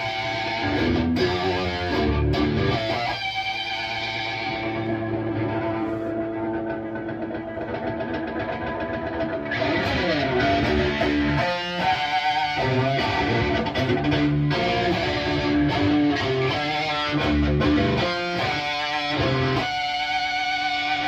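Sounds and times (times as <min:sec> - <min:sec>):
distorted electric guitar riffs: 0:00.0 - 0:21.0.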